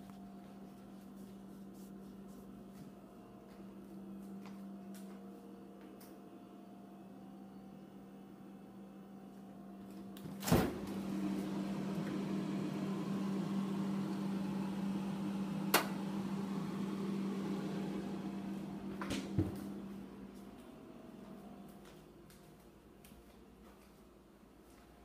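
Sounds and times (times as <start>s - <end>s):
appliance electrical hum: 0.0s - 25.0s.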